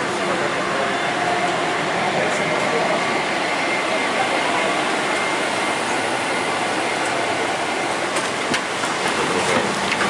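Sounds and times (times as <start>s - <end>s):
faint steady whine: 0.0s - 9.2s
airliner cabin air and engine noise: 0.0s - 10.0s.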